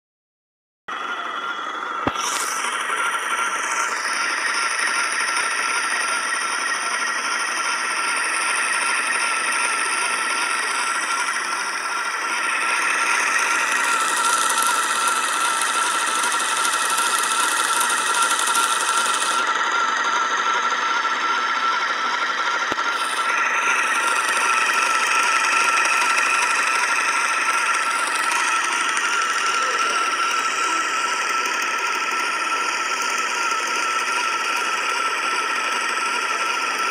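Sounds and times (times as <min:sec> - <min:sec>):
electric spinning wheel whirring: 0:00.9 - 0:36.9.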